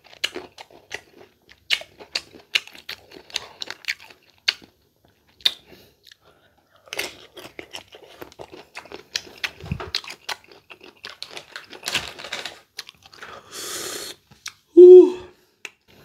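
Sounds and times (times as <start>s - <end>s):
chewing crisp mango: 0.0s - 13.5s.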